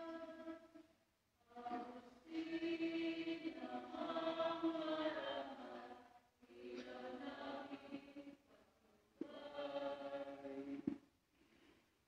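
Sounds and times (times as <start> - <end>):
faint hymn singing: 0.0 - 0.8, 1.4 - 11.0.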